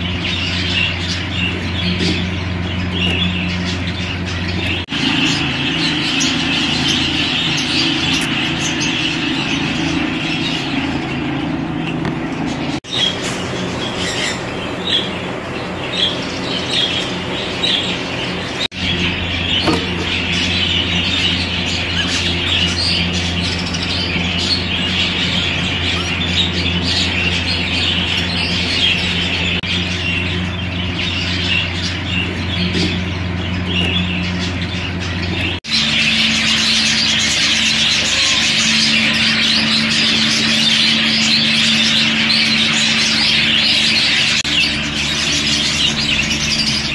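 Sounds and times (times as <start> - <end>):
budgerigars chirping and squawking: 0.0 - 46.9
steady low hum: 0.0 - 46.9.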